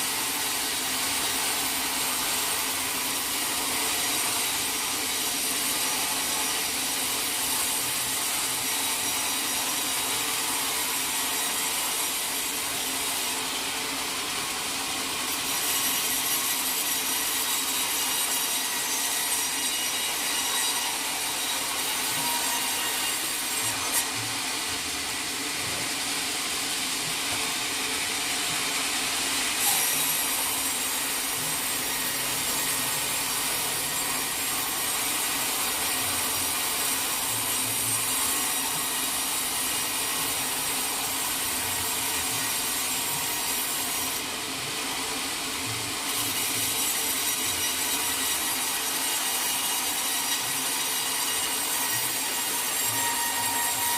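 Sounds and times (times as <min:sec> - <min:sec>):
saw blade rasping through log: 0:00.0 - 0:45.0, 0:45.6 - 0:53.9.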